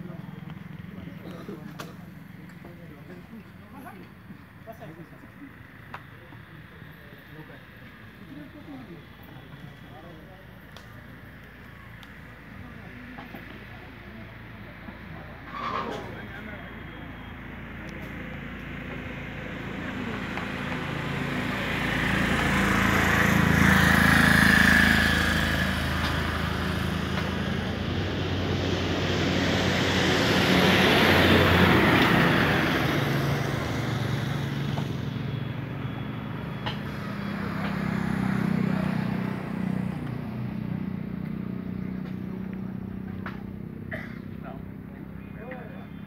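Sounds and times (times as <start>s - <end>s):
vehicles passing on road: 0.0s - 46.0s.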